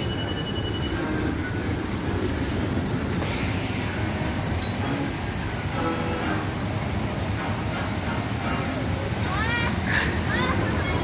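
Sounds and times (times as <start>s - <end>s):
machinery hiss: 0.0s - 6.6s, 7.3s - 10.7s
ride machinery rumbling: 0.0s - 11.0s.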